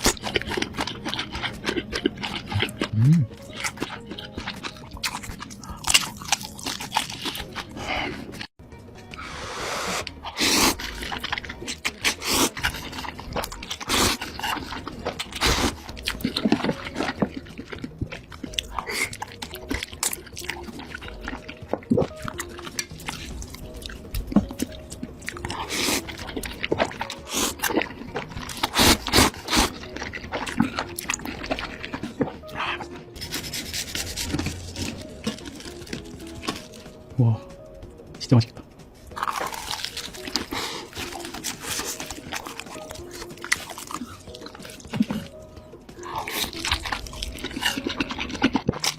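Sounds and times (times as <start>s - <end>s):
wet crunchy chewing: 0.0s - 8.5s, 10.0s - 37.0s, 39.1s - 48.9s.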